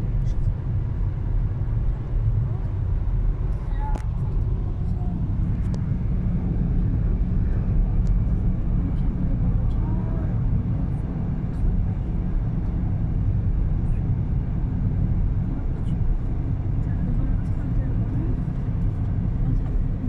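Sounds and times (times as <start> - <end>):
car interior road noise: 0.0 - 20.0.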